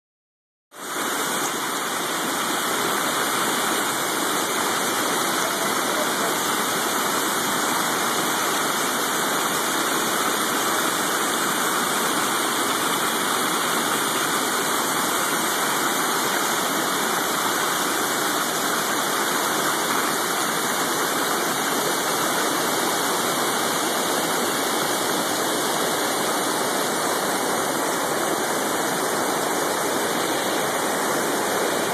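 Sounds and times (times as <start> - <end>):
flood water rushing: 0.8 - 31.9.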